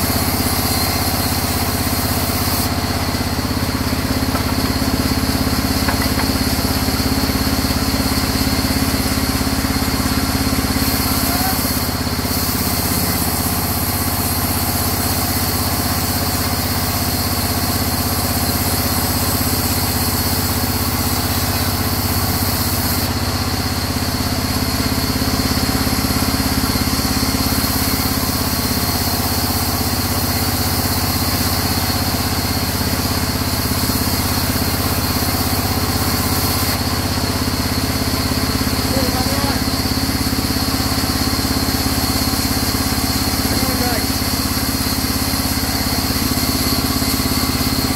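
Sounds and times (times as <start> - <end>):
saw blade cutting log: 0.0 - 23.6, 24.9 - 47.9
band saw machine hum: 0.0 - 47.9.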